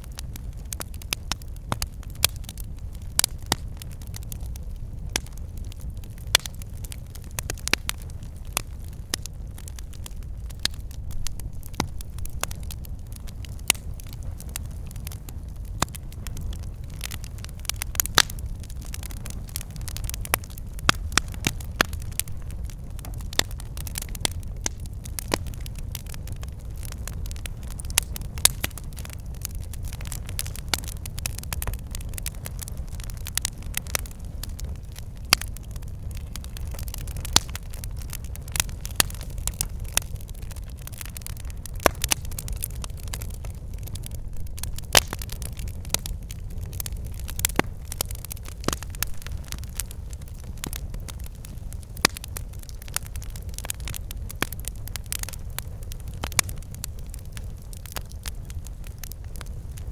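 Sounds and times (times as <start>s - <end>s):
campfire pops and snaps: 0.0s - 59.9s
low rumble of burning fire: 0.0s - 59.9s.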